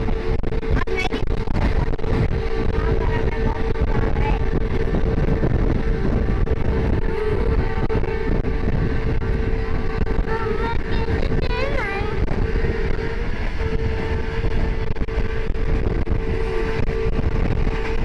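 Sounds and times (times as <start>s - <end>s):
rushing air: 0.0s - 18.0s
steady hum: 0.0s - 18.0s
wheels rumbling on track: 0.0s - 18.0s.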